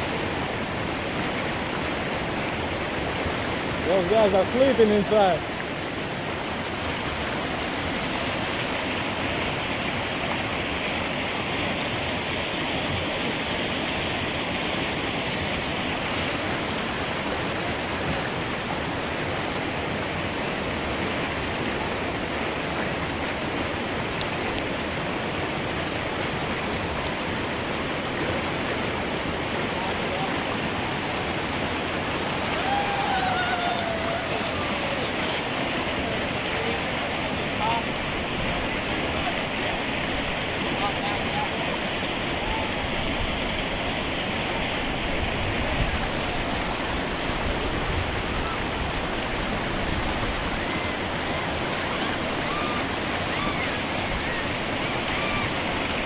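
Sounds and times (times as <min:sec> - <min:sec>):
river rapids rushing: 0:00.0 - 0:56.0.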